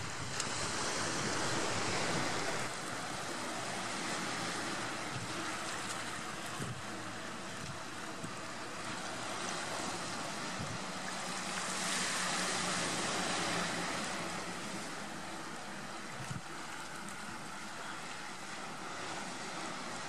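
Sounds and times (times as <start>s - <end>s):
sea surf washing over rocks: 0.0s - 20.0s.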